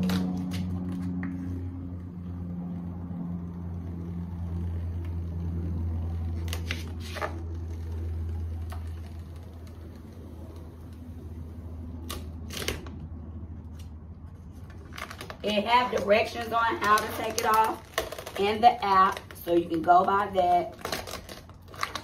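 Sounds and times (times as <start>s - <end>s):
vinyl film crackling: 0.0s - 13.0s, 13.7s - 22.0s
steady low hum: 0.0s - 22.0s.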